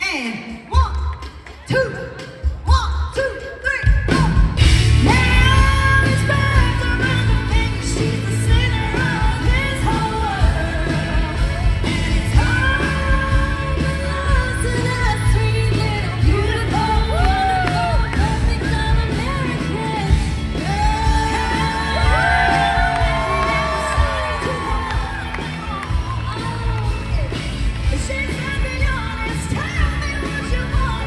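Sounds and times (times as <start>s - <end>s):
woman singing: 1.7s - 31.0s
live pop-country band: 4.1s - 31.0s.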